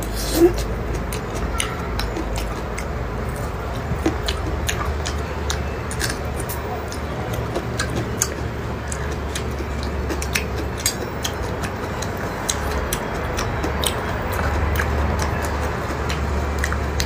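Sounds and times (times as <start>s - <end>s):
steady low hum: 0.0s - 17.0s
wet chewing clicks and smacks: 0.0s - 17.0s.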